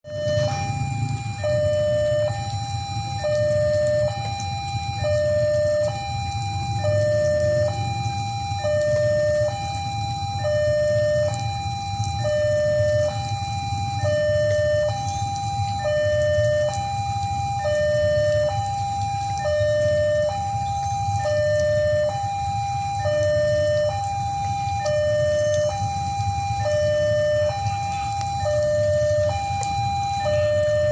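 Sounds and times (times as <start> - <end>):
two-tone level crossing alarm: 0.0 - 30.9
steady low rumble: 0.1 - 30.9.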